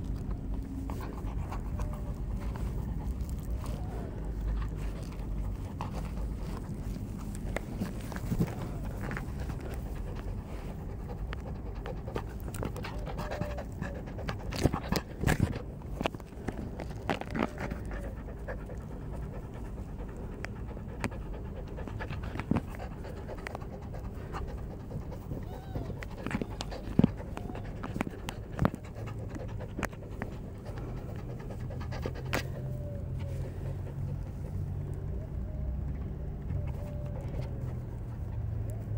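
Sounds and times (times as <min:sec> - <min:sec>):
low steady hum: 0:00.0 - 0:38.9
puppy panting: 0:00.0 - 0:38.9.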